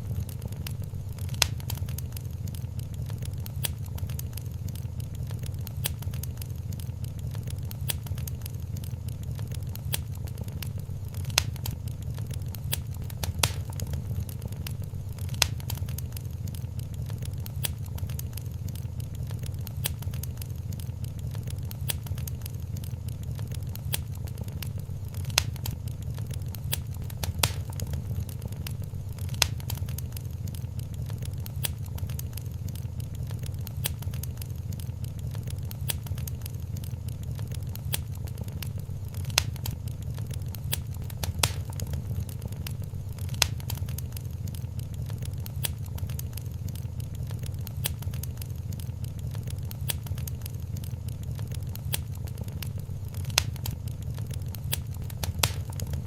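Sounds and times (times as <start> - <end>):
low rumble of flames: 0.0 - 56.0
wood fire crackling: 0.0 - 56.0.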